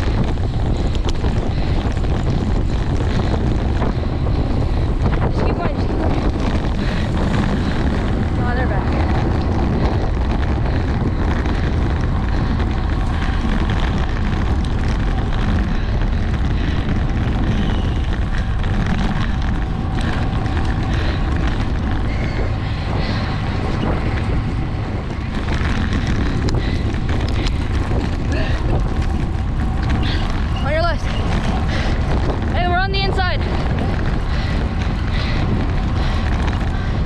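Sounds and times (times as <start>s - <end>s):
bicycle tyres rolling on asphalt: 0.0s - 37.0s
wind buffeting microphone: 0.0s - 37.0s.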